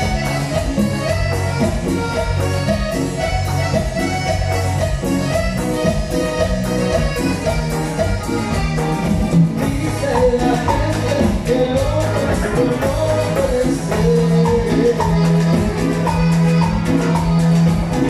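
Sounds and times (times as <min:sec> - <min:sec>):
button accordion melody: 0:00.0 - 0:18.0
live latin dance band: 0:00.0 - 0:18.0.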